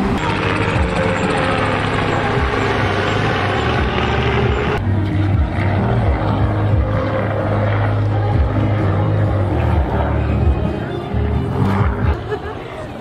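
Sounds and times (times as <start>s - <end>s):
vehicle rumble with low hum: 0.0s - 12.2s.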